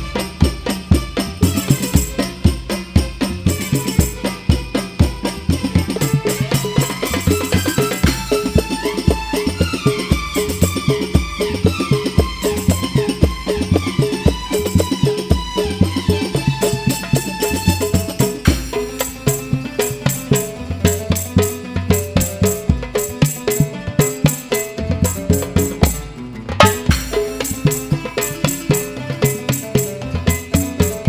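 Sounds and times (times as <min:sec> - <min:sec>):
frame drums playing fast rhythm: 0:00.0 - 0:31.0.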